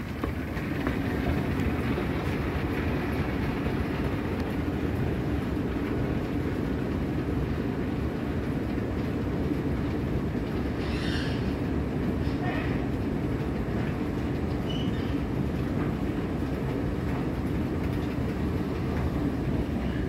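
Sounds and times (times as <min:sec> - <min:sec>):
escalator rumble and hum: 0:00.0 - 0:20.0.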